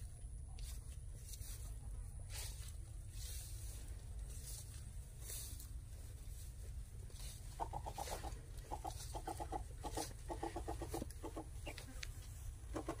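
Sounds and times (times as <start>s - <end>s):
steady low rumble: 0.0s - 12.7s
chickens clucking: 1.6s - 13.0s.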